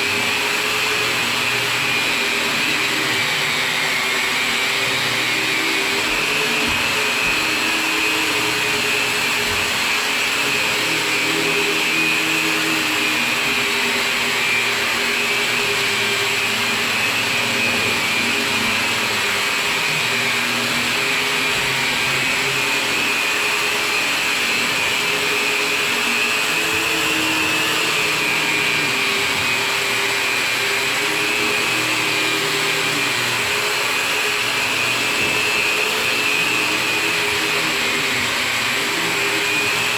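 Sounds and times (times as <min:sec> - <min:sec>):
electric drywall sander running: 0:00.0 - 0:39.9.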